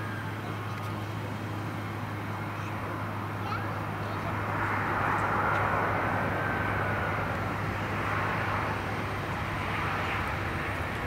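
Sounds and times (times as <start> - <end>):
jet engines rushing with whine: 0.0 - 11.0.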